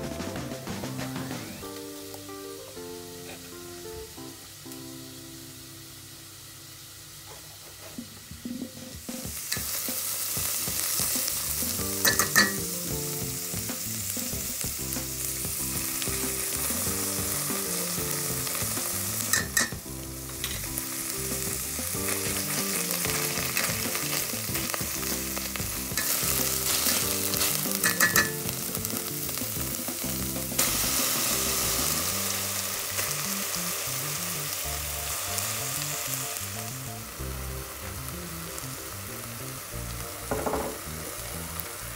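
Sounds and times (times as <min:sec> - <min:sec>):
vegetables sizzling in oil: 0:00.0 - 0:41.9.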